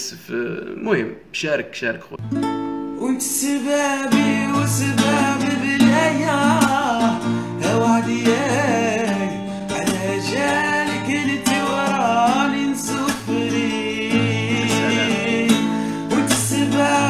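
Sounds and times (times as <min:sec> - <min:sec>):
acoustic guitar: 0:02.2 - 0:17.0
man singing: 0:03.0 - 0:17.0.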